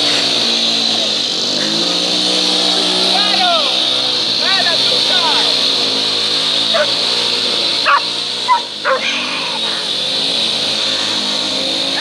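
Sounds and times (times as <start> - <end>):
small motorcycle engines running: 0.0 - 12.0.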